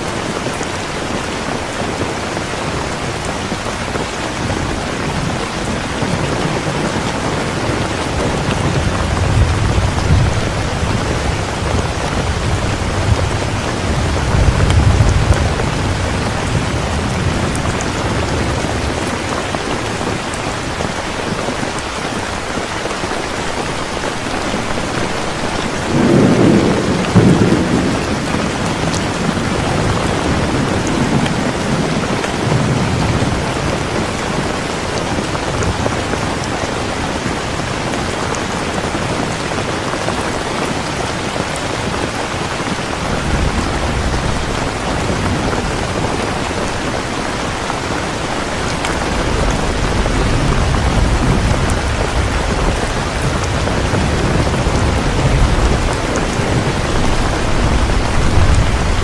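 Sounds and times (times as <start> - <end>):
thunder rumbling: 0.0 - 22.5, 24.1 - 59.0
heavy rain falling: 0.0 - 59.0.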